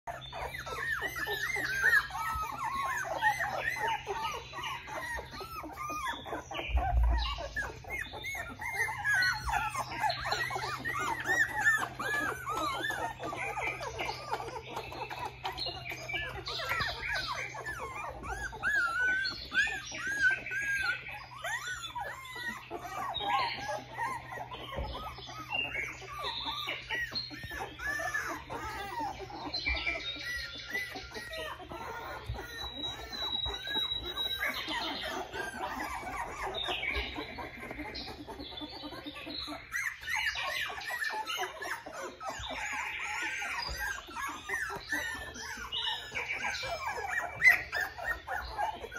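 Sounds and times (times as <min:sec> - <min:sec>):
puppies whining and squealing: 0:00.0 - 0:48.9.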